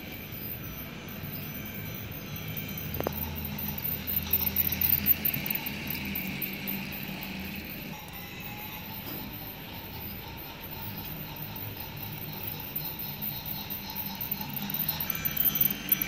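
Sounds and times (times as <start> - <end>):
toy train motor whirring: 0.0 - 16.0
wheels clicking on plastic track: 2.6 - 16.0.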